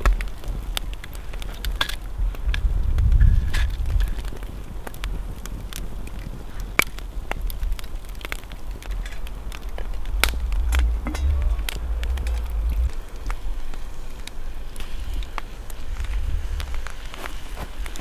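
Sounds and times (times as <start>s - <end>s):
campfire crackling and popping: 0.0s - 18.0s
wind rumble on microphone: 0.0s - 18.0s.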